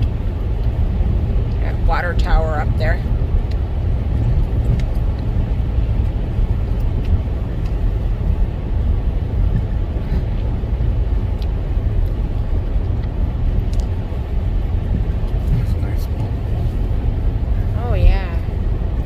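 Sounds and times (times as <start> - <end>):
car interior engine and tyre noise: 0.0 - 19.0.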